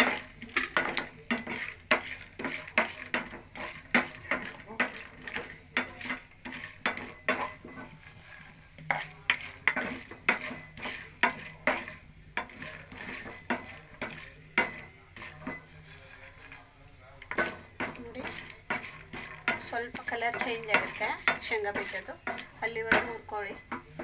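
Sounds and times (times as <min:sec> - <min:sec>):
light sizzle: 0:00.0 - 0:24.0
spatula scraping and clattering: 0:00.0 - 0:24.0.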